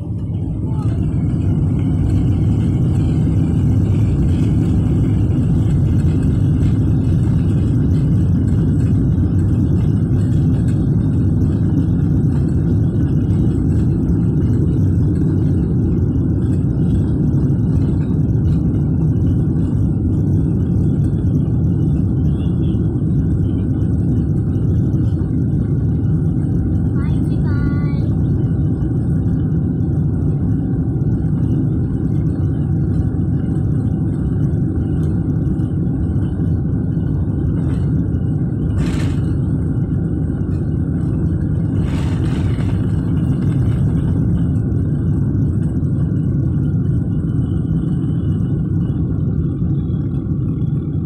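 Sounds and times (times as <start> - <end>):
jet engines rumbling in cabin: 0.0 - 51.0.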